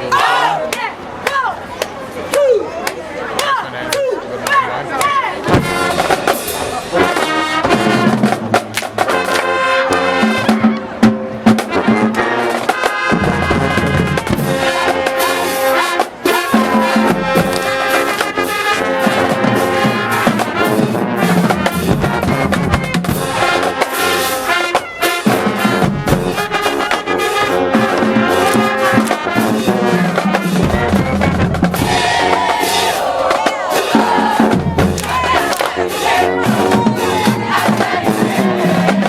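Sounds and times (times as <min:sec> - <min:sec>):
marching drums: 0:04.5 - 0:39.0
brass instruments playing: 0:05.4 - 0:39.0.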